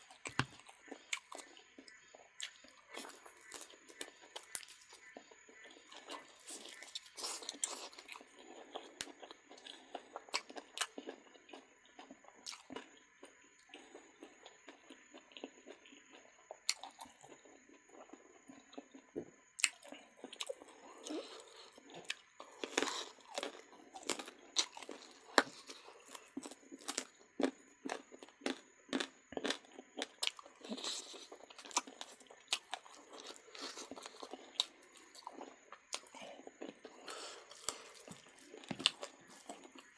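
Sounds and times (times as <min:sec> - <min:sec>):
person chewing meat: 0:00.0 - 0:39.9.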